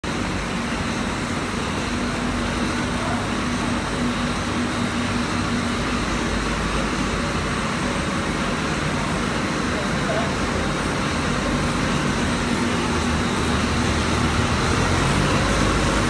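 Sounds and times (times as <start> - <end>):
printing machine drone: 0.0 - 16.0.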